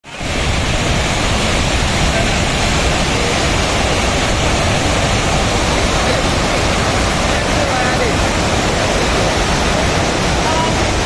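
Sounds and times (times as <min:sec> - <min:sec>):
waterfall water rushing: 0:00.0 - 0:11.0.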